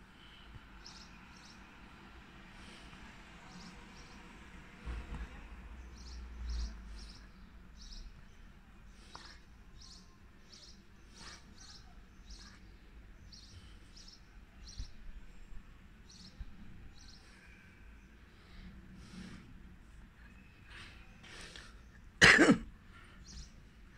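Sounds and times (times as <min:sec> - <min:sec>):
faint background noise: 0:00.0 - 0:23.9.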